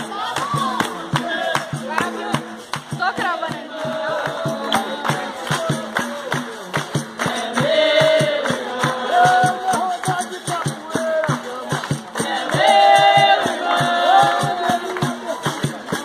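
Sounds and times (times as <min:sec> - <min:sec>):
group singing: 0:00.0 - 0:16.0
hand clapping: 0:00.0 - 0:16.0
hand drum steady beat: 0:00.0 - 0:16.0.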